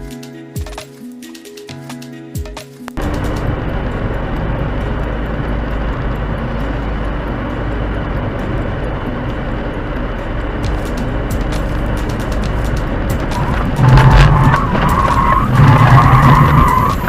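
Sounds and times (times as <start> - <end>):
vehicle driving rumble: 3.0 - 17.0.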